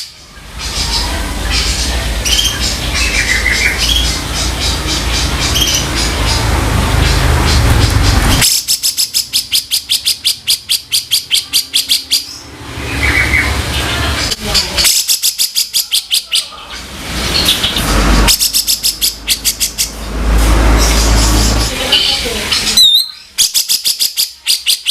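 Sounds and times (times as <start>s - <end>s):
noisy background: 0.0s - 24.8s
bird giving harsh rattling calls: 0.6s - 16.5s, 17.2s - 24.9s.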